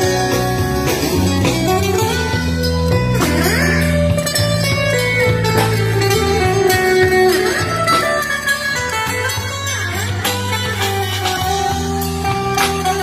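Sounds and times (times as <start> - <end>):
acoustic guitar melody: 0.0 - 13.0
low bass notes: 0.0 - 13.0.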